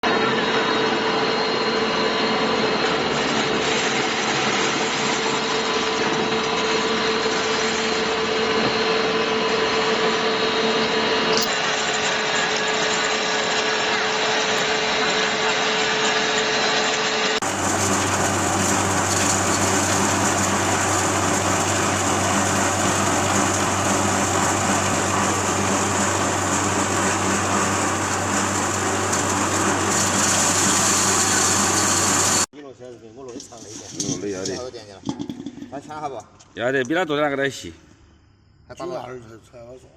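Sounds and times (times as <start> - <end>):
grinding machine running: 0.0 - 32.5.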